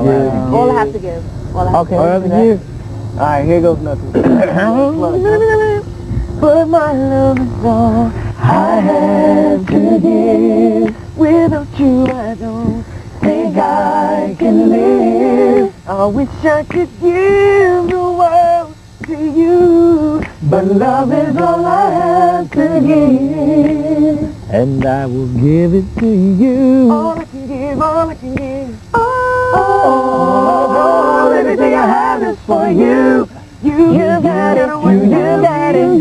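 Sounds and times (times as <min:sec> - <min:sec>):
woman and man singing unaccompanied: 0:00.0 - 0:02.6, 0:04.5 - 0:36.0.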